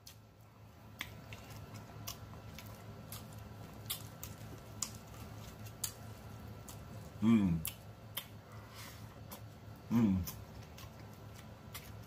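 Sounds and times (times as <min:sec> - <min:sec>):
low steady hum: 0:00.0 - 0:12.0
man chewing food: 0:00.0 - 0:12.0.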